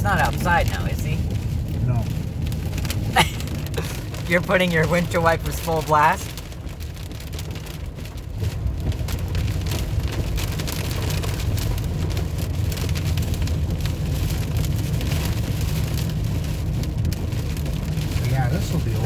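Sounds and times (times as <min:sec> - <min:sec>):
car rumbling on road: 0:00.0 - 0:19.0
heavy rain on car roof: 0:00.0 - 0:19.0.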